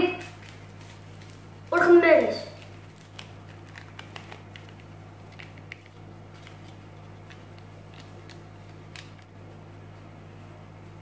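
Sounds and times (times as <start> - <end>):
paper sachet crinkling and tearing: 0.0 - 9.4
steady low hum: 0.0 - 11.0.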